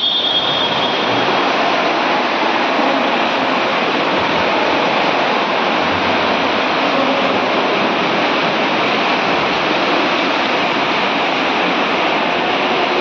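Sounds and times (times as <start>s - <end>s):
swimmers splashing in pool: 0.0s - 13.0s.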